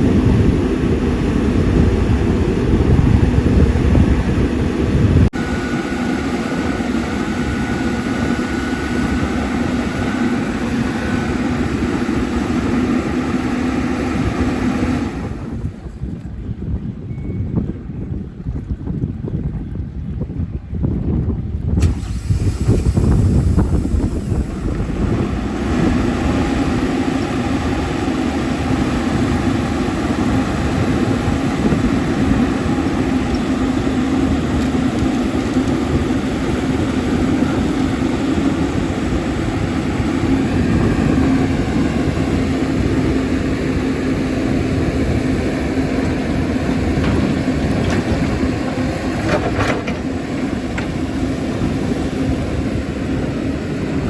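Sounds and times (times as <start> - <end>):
excavator diesel engine humming: 0.0 - 17.3, 21.8 - 54.0.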